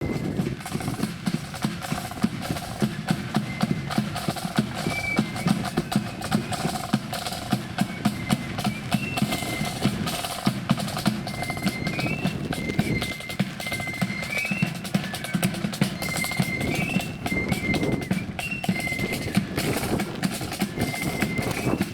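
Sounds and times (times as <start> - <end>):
marching band playing: 0.0 - 21.9
snare and bass drumbeat: 0.0 - 21.9.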